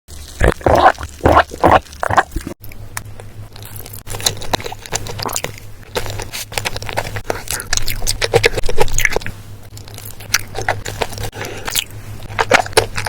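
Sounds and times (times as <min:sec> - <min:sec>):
crackling chewing: 0:00.1 - 0:13.0
crunchy bites: 0:00.2 - 0:13.0.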